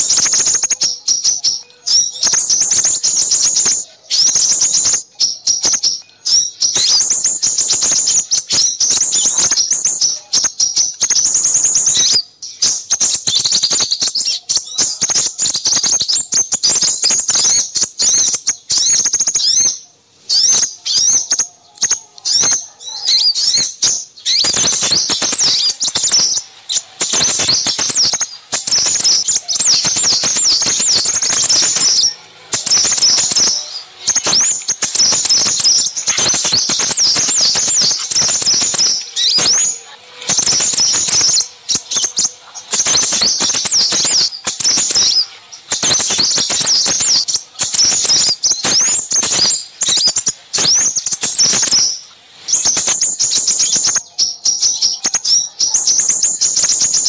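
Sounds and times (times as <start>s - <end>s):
small songbirds chirping: 0.0s - 57.0s.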